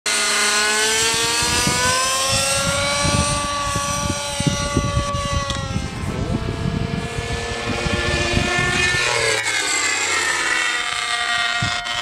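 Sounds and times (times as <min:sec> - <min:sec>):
model helicopter engine: 0:00.1 - 0:12.0.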